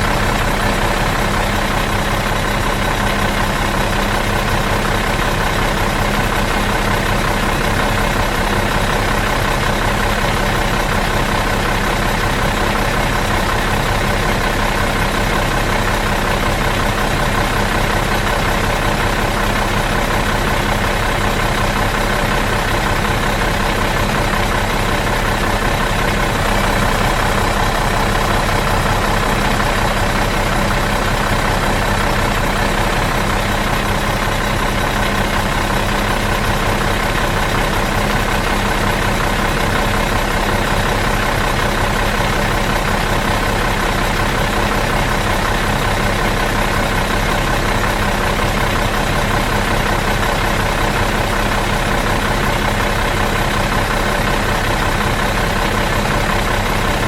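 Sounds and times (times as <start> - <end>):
bus engine idling: 0.0 - 57.0.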